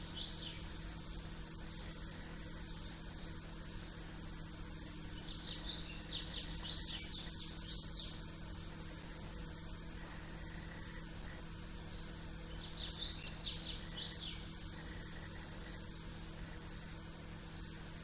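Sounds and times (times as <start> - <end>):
small birds singing: 0.0 - 18.0
steady low hum: 0.0 - 18.0.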